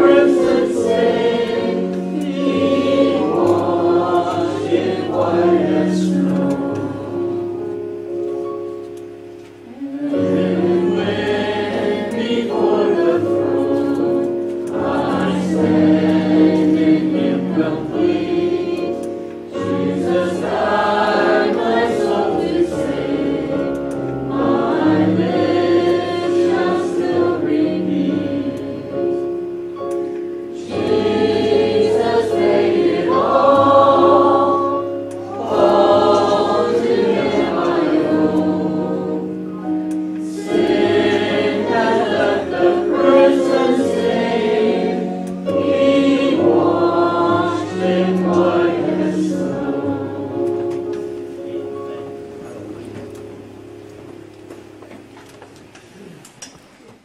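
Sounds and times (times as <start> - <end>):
voices singing a hymn: 0.0 - 8.6, 9.6 - 55.1
sustained accompaniment notes: 0.0 - 56.0.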